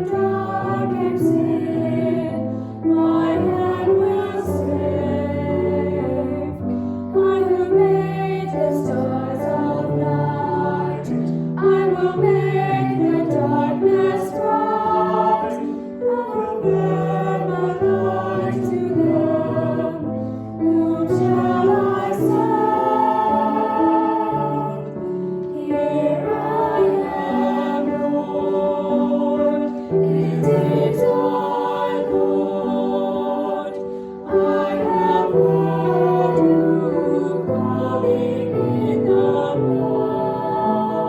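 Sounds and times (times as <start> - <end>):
choir singing a hymn: 0.0 - 41.0.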